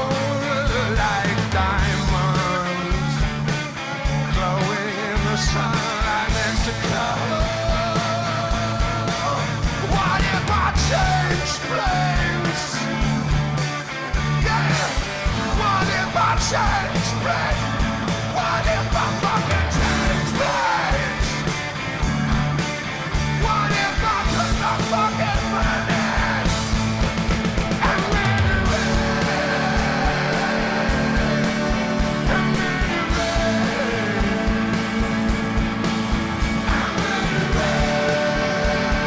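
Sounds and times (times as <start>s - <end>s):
instrumental rock band playing: 0.0s - 39.0s.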